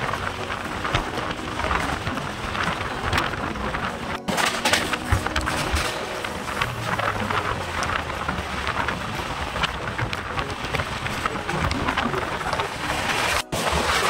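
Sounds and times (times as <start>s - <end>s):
wheel and track clicks: 0.0s - 14.0s.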